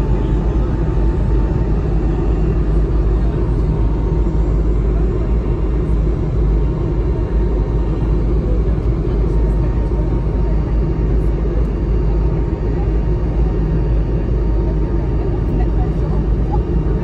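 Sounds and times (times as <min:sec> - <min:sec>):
airplane cabin rumble: 0:00.0 - 0:17.0
jet engine whine: 0:00.0 - 0:17.0.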